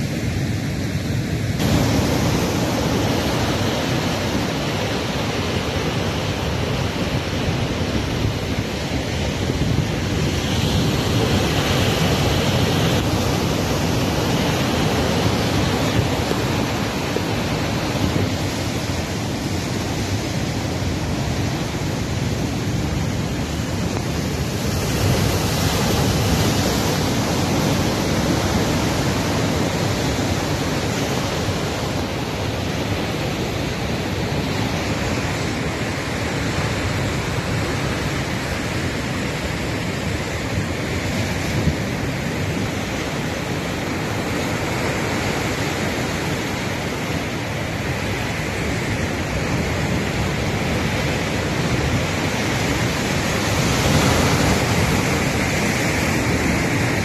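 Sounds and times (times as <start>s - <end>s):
surf breaking on rocky shore: 0.7s - 57.0s.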